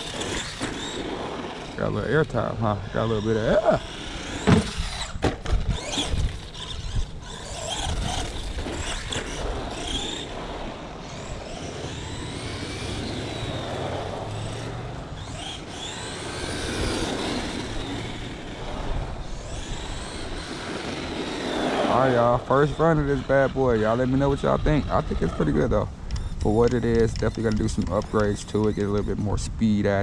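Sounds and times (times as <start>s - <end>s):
rc truck motor whining: 0.0s - 29.8s.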